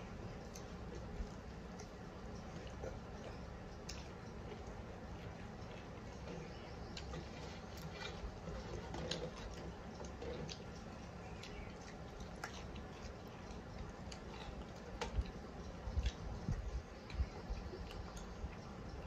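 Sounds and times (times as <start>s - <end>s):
wet mouth clicks and chewing: 0.4s - 19.0s.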